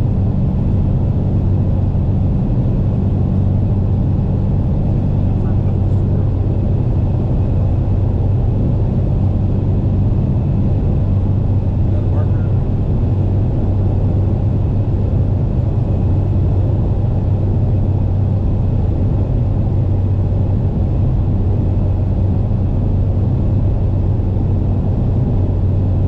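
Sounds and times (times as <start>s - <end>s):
car engine drone: 0.0s - 26.0s.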